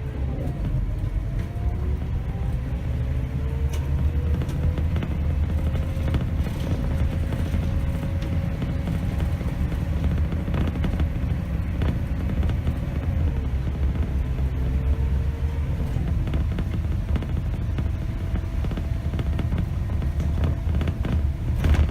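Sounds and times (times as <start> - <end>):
bus diesel engine rumble: 0.0 - 21.9
drivetrain whine: 0.0 - 21.9.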